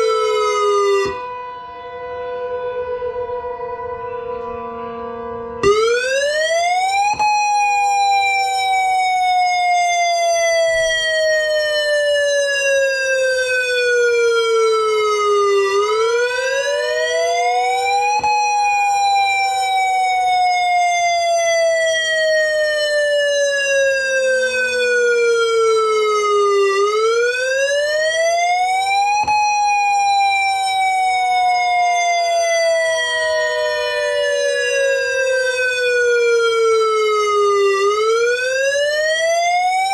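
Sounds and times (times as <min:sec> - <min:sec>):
steady siren alert tone: 0:00.0 - 0:39.9
wailing warning siren: 0:00.0 - 0:39.9.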